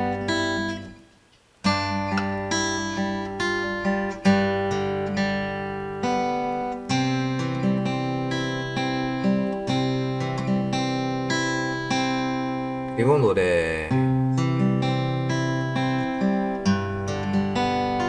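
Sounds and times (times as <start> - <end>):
fingerpicked acoustic guitar: 0.0 - 18.0.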